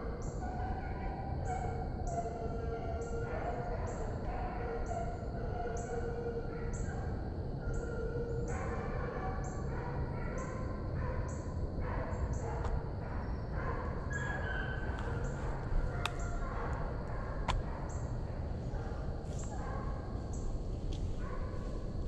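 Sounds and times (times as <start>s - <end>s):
hounds baying: 0.0s - 22.0s.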